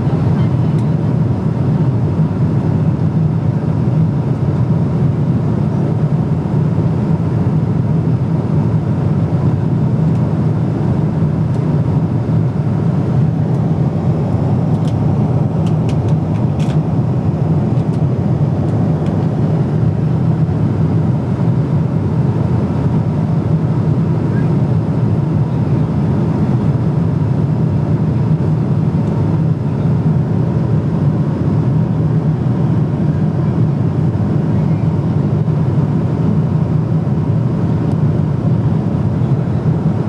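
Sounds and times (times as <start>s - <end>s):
jet engine drone: 0.0s - 40.0s.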